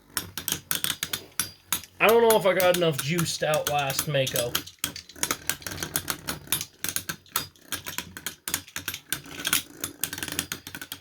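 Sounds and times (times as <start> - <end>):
plastic spinning tops colliding: 0.0 - 11.0.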